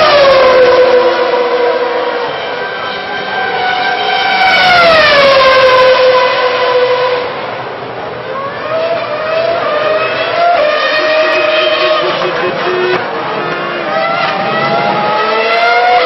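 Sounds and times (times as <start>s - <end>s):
racing engine passing at speed: 0.0s - 7.6s, 8.2s - 16.0s.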